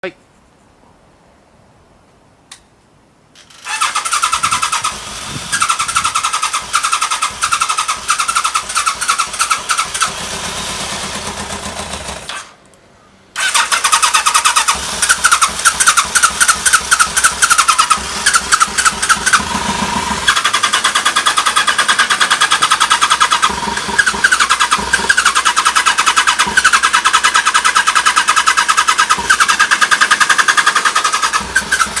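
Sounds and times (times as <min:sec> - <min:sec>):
motorcycle engine starting and running: 0:03.4 - 0:12.6, 0:13.3 - 0:32.0.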